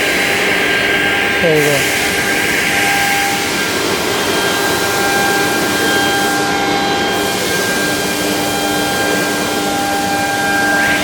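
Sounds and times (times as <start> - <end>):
router machine rushing and whining: 0.0 - 11.0.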